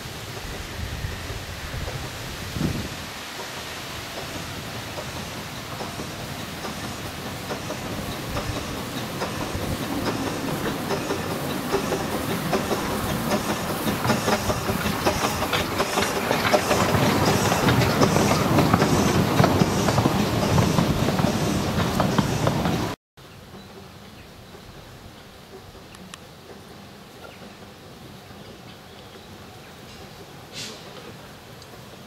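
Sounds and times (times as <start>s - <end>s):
steam locomotive running past: 0.0s - 32.0s.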